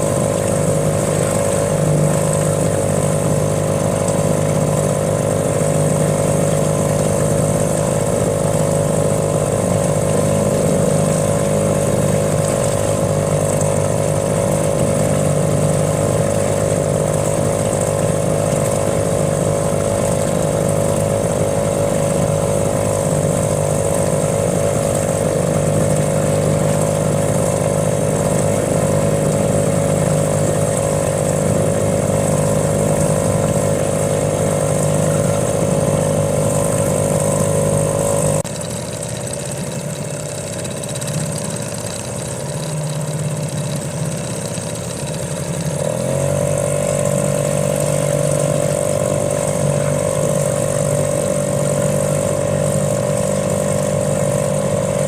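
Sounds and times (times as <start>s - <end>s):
small boat motor humming: 0.0s - 55.0s.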